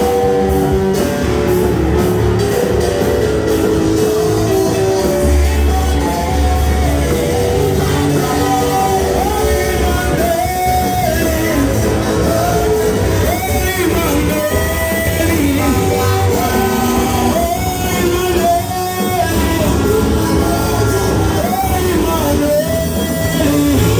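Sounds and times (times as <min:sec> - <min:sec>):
band with guitar and bass: 0:00.0 - 0:23.9
voices singing: 0:00.0 - 0:23.9.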